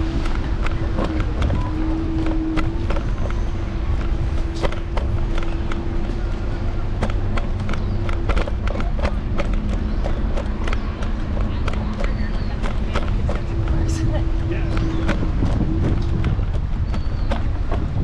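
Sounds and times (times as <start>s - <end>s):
electric scooter motor whine: 0.0s - 18.0s
scooter rattling and clicking: 0.0s - 18.0s
wheels rumbling on pavement: 0.0s - 18.0s.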